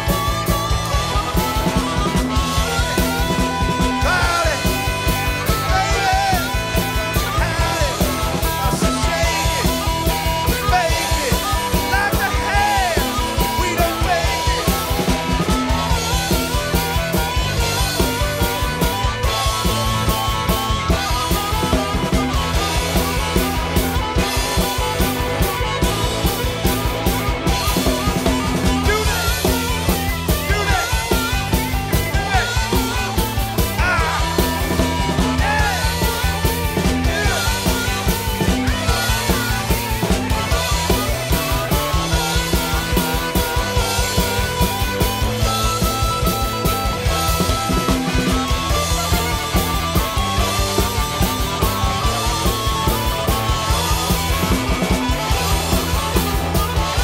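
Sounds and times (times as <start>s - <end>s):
drum kit steady beat: 0.0s - 57.0s
harmonica bending notes: 0.0s - 57.0s
live rock band playing: 0.0s - 57.0s.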